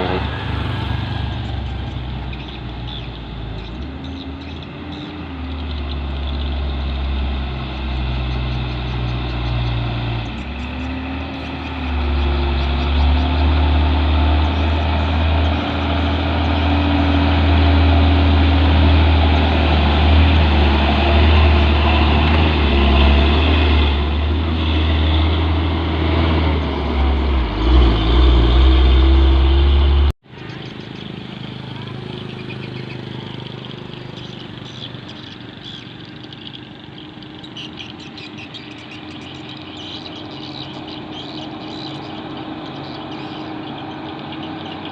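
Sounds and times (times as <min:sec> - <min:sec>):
diesel truck engine rumbling: 0:00.0 - 0:44.9.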